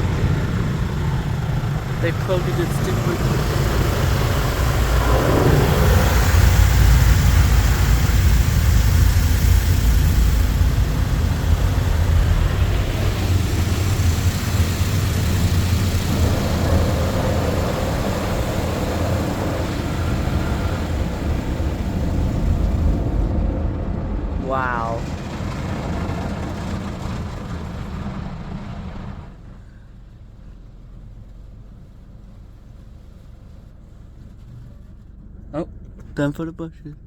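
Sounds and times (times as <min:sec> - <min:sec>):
car wash brushes and water spray: 0:00.0 - 0:24.4, 0:25.0 - 0:36.4.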